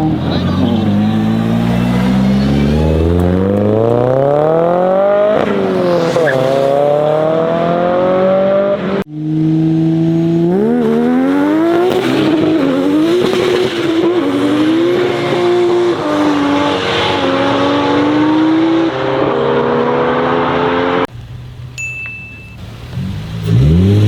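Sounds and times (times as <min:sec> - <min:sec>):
car engine revving: 0:00.0 - 0:21.1, 0:22.8 - 0:24.0.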